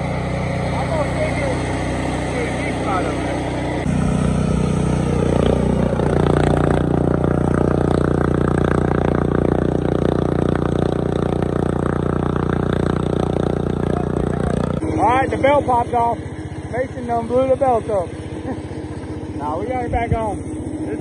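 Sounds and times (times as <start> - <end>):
riding lawn mower engine running: 0.0 - 21.0.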